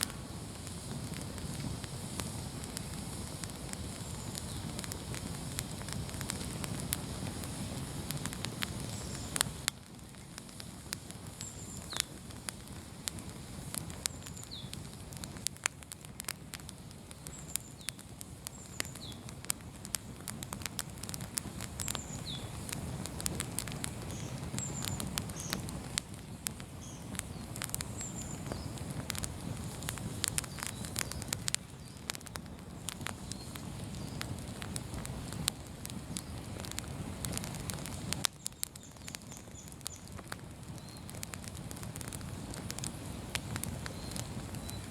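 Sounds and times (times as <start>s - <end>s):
bonfire crackling and popping: 0.0s - 44.9s
low rush of burning: 0.0s - 44.9s.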